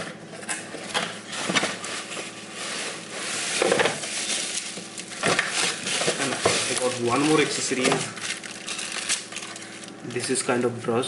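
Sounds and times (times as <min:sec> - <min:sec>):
bubble wrap crinkling: 0:01.4 - 0:10.3.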